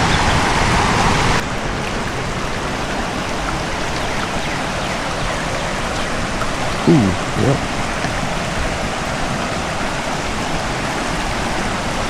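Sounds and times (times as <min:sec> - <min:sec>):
river flowing: 0:00.6 - 0:12.0.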